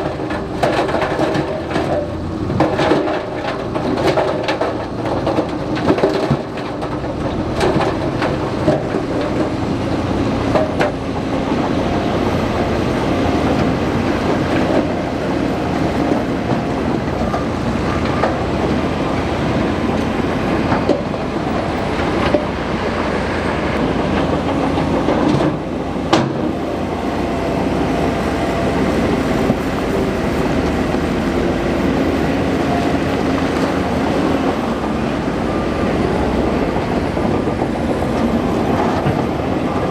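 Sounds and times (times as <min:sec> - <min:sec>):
bulldozer diesel engine running: 0:00.0 - 0:39.9
steel tracks rattling: 0:00.0 - 0:39.9.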